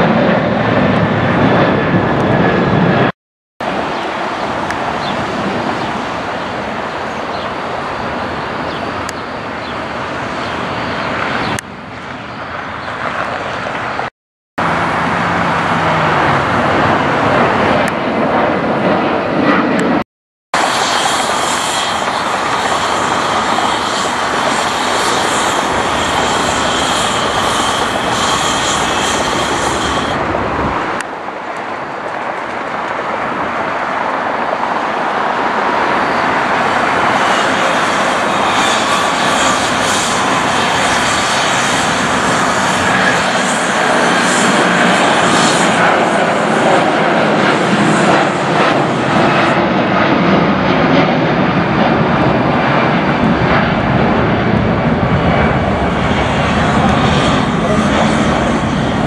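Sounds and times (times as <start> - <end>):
jet airliner engines passing: 0.0 - 20.0, 20.6 - 59.0.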